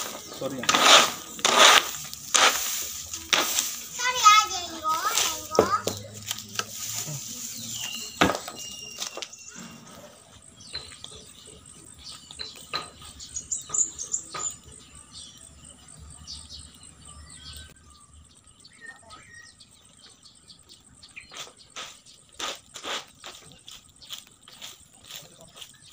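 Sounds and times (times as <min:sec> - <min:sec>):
insects trilling: 0:00.0 - 0:25.9.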